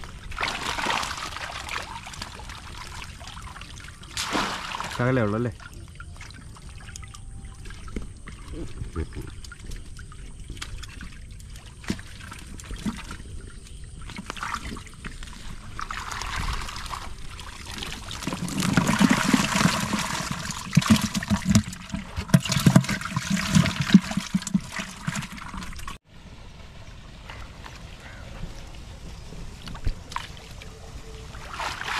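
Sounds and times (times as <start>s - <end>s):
water trickling and splashing: 0.0s - 26.1s, 26.8s - 31.9s.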